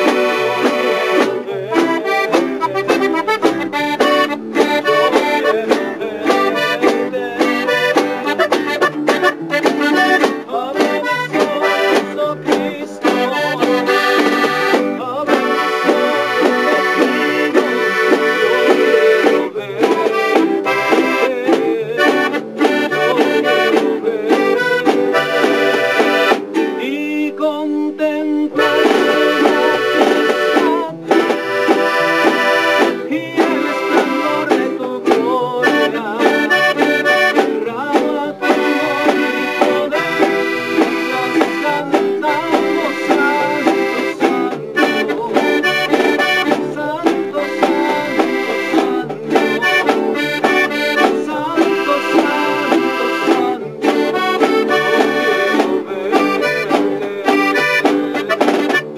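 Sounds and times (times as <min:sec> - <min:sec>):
accordion playing melody: 0:00.0 - 0:58.9
acoustic bass: 0:00.0 - 0:58.9
strummed guitars: 0:00.0 - 0:58.9.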